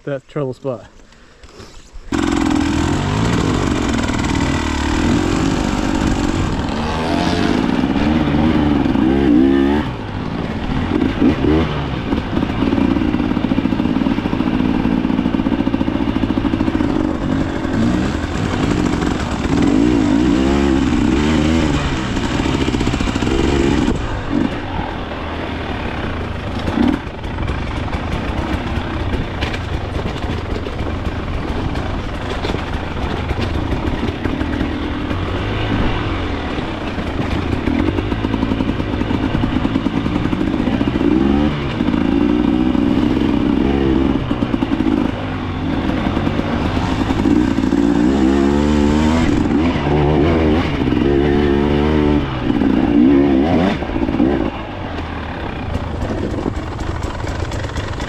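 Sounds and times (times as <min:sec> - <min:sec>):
dirt bike engine revving: 0:02.1 - 0:58.0.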